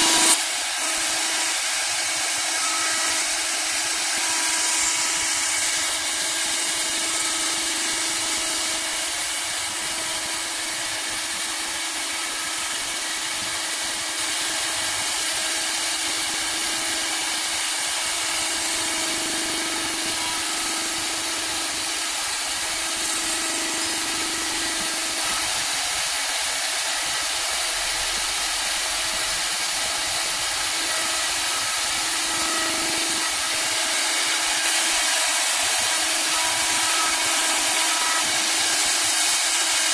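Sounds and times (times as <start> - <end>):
low machine hum: 0.0 - 39.9
wood shaving hiss: 0.0 - 39.9.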